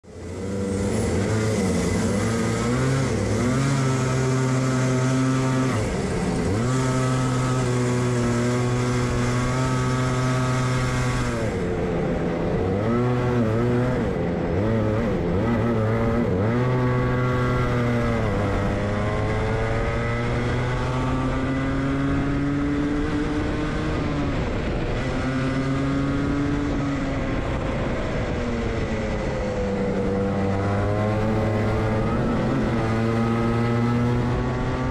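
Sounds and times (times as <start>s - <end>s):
kart engine revving: 0.1s - 34.9s.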